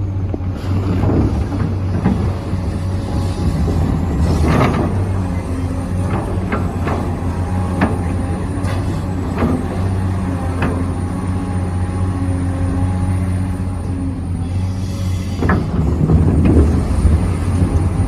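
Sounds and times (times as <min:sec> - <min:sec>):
model excavator mechanical hum: 0:00.0 - 0:18.0.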